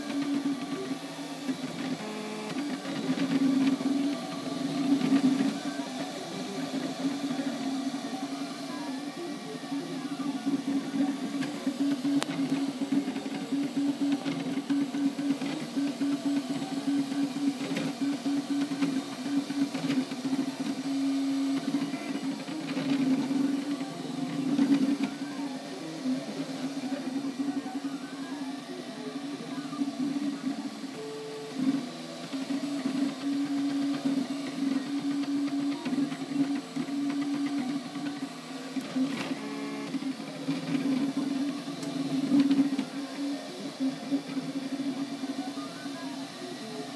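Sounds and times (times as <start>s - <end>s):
stepper motors humming: 0.0s - 46.9s.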